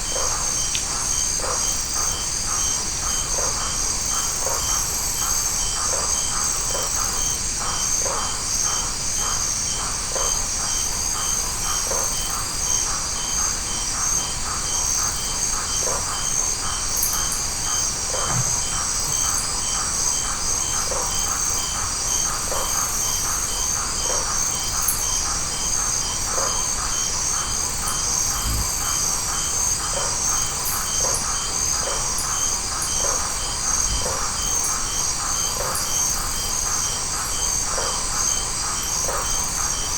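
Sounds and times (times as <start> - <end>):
insects trilling: 0.0 - 39.9
pulsing insect call: 0.0 - 39.9.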